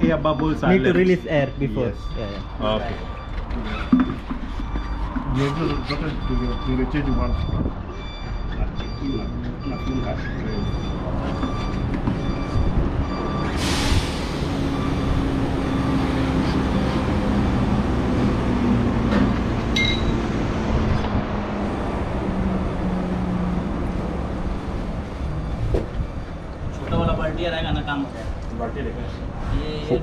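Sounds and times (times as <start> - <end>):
generator machinery drone: 0.0 - 27.1.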